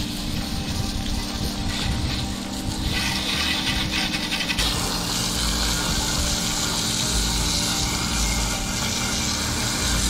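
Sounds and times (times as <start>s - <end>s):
hose nozzle spraying water: 0.0s - 10.0s.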